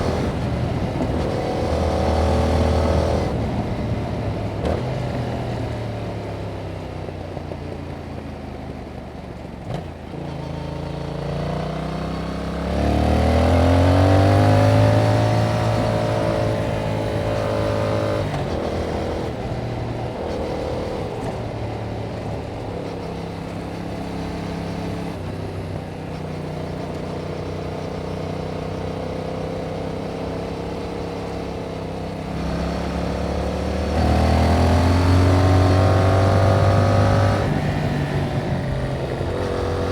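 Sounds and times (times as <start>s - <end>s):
motorcycle engine revving: 0.0s - 8.0s, 9.5s - 39.9s.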